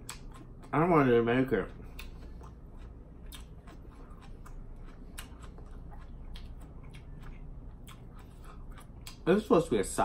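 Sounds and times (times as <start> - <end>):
sharp chewing clicks: 0.0 - 9.4
person chewing wet smacking: 0.0 - 9.5.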